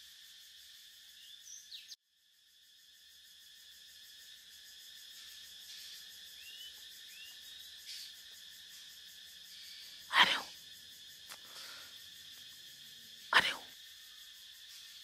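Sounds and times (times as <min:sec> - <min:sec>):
insects chorus humming: 0:00.0 - 0:15.0.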